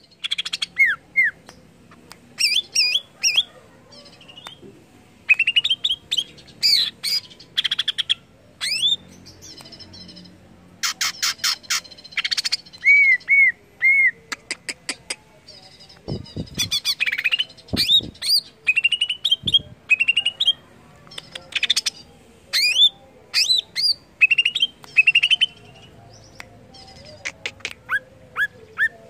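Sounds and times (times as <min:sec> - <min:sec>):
bird singing varied song: 0:00.0 - 0:01.7, 0:02.3 - 0:04.6, 0:05.3 - 0:14.3, 0:15.4 - 0:29.0.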